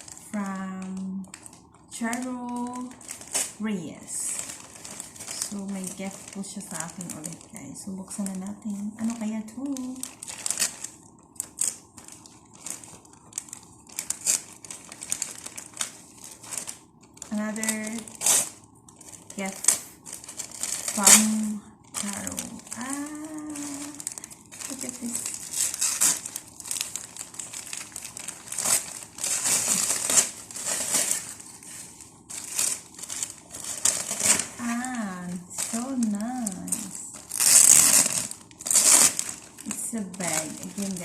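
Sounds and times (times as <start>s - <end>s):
packaging crinkling and rustling: 0.0s - 41.0s.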